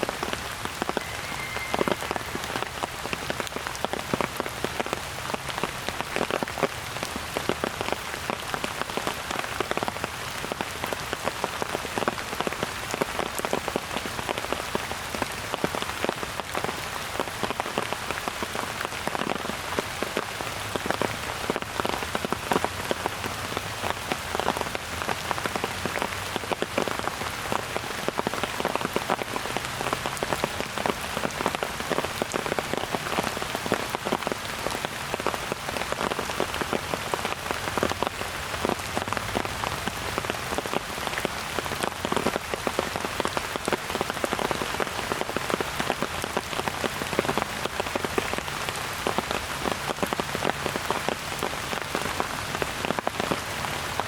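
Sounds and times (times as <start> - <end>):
steady rain falling: 0.0 - 54.0
raindrops ticking: 0.1 - 54.0.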